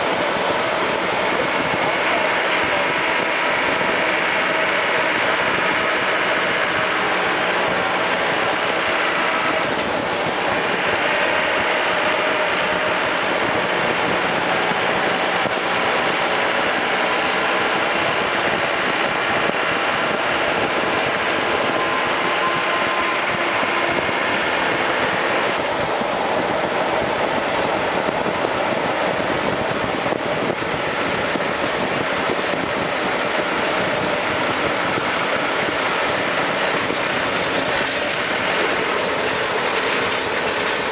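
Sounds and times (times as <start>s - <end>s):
vehicle running noise: 0.0s - 40.9s.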